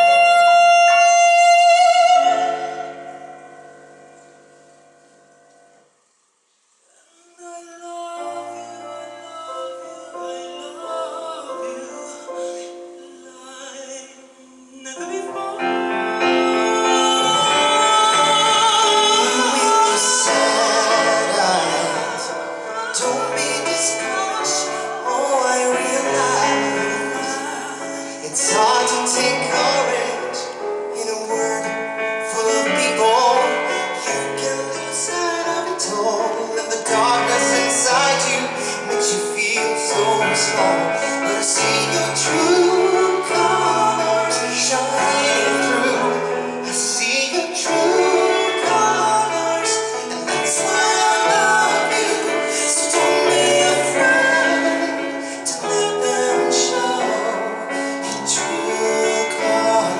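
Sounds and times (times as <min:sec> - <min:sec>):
pop ballad singing: 0:00.0 - 0:03.6, 0:07.0 - 0:59.9.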